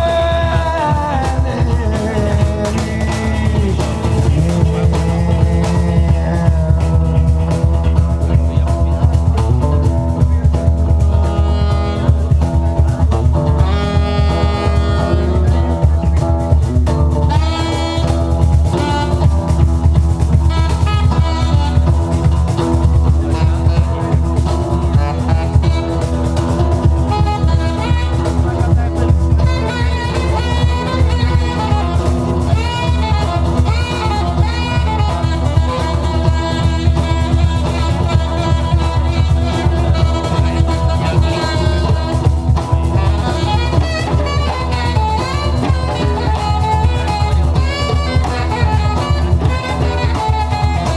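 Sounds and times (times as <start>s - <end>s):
heavy bass: 0.0s - 50.9s
live band playing: 0.0s - 50.9s
wavering lead melody: 7.0s - 50.9s.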